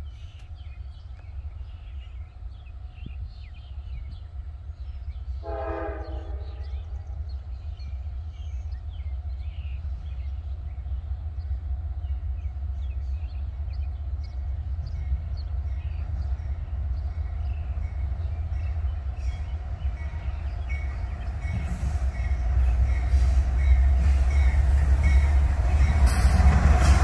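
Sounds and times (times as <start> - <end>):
train passing rumble: 0.0 - 27.0.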